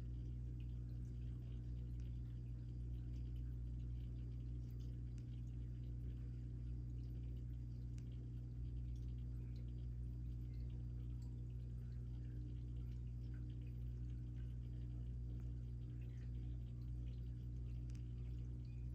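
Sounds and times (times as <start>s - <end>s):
aquarium equipment hum: 0.0s - 18.9s
faint ticks: 0.0s - 18.9s
water trickling: 0.0s - 18.9s.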